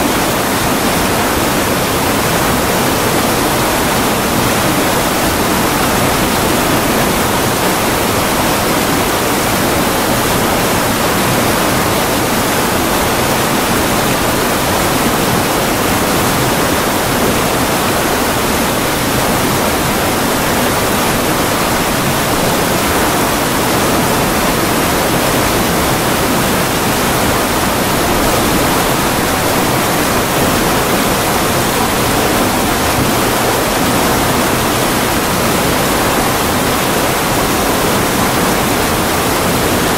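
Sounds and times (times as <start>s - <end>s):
water rushing through sluice gate: 0.0s - 39.9s.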